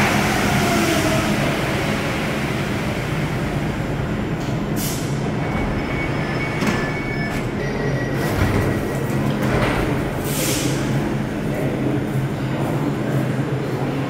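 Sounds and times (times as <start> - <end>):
train hum and rumble: 0.0 - 14.0.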